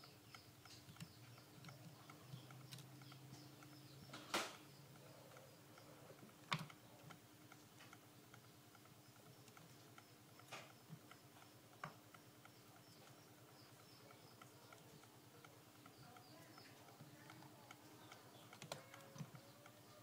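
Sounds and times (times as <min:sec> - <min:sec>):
faint clicks: 0:00.0 - 0:20.0
fine ticking: 0:00.0 - 0:20.0.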